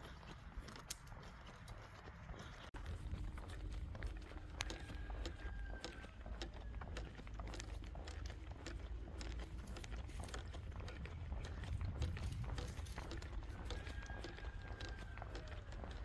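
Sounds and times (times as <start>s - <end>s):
footsteps on a trail: 0.0s - 16.0s
steady low rumble: 1.8s - 16.0s.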